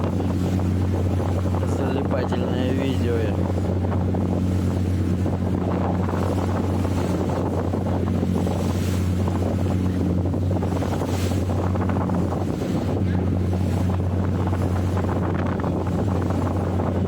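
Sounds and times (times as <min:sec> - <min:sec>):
boat engine droning: 0:00.0 - 0:17.0
wind buffeting microphone: 0:00.0 - 0:17.0.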